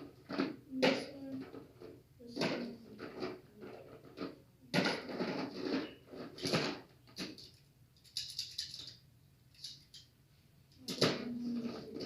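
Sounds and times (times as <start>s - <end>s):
objects clattering and rustling: 0.0s - 10.1s, 10.7s - 12.0s.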